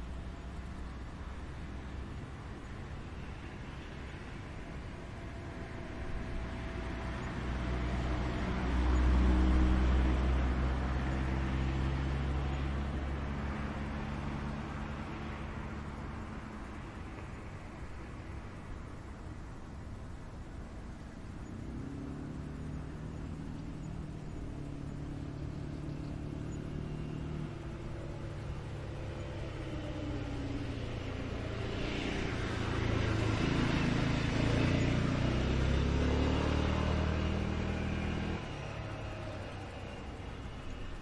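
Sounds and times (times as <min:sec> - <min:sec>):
vehicle engine approaching: 0:00.0 - 0:41.0.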